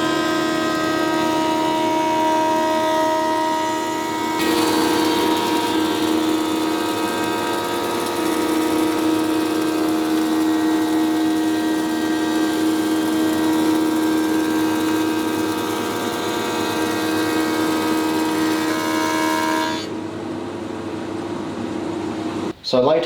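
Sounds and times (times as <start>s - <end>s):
woodworking machine humming: 0.0s - 22.5s
machine whine: 0.0s - 22.6s.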